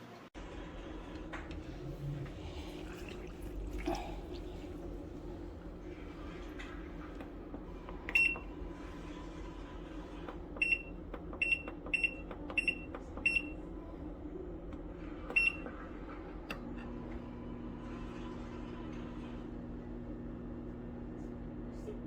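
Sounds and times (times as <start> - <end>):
steady low hum: 0.4 - 22.0.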